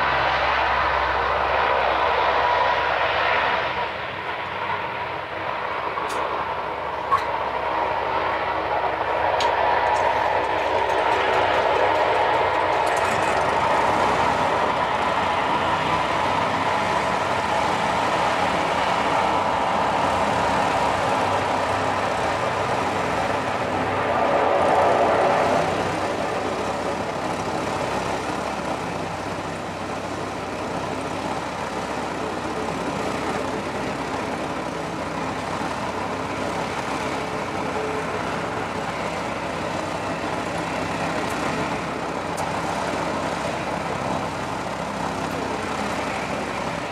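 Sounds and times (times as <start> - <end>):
turboprop engines droning: 0.0 - 46.9.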